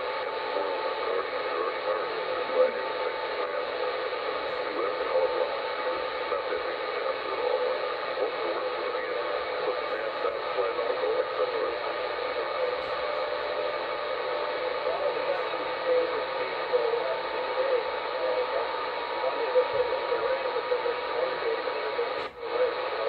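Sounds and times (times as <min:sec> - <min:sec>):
radio static: 0:00.0 - 0:23.0.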